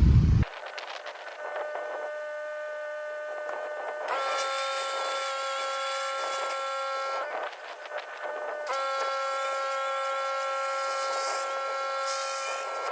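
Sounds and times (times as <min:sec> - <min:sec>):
pressure washer whine: 0:00.0 - 0:12.9.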